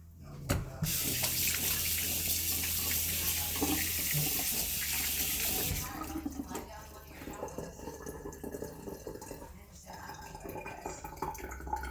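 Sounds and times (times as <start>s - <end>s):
tap water running into sink: 0.8s - 11.9s.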